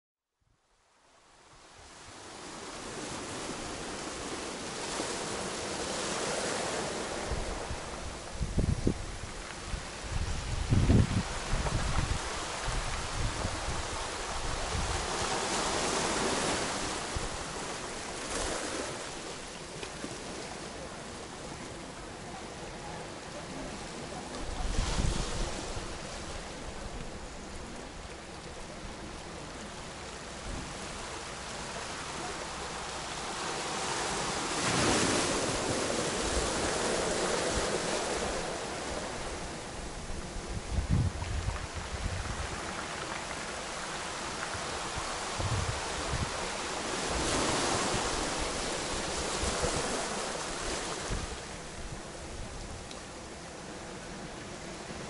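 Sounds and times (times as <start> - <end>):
small waves on pebble beach: 1.8 - 21.9, 22.5 - 40.4, 41.2 - 52.1.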